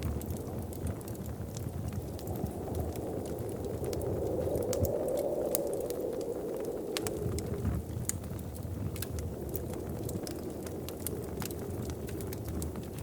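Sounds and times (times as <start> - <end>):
low rushing wind: 0.0 - 13.0
wood fire crackling: 0.0 - 13.0.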